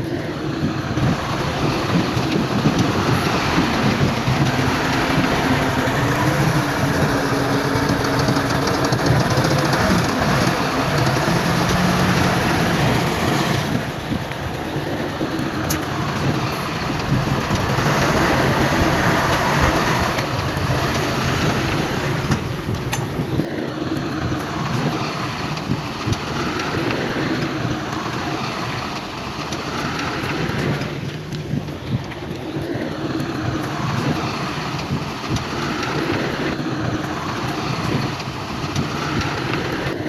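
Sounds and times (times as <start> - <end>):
diesel engine hum: 0.0 - 40.0
rough clattering noise: 0.0 - 40.0.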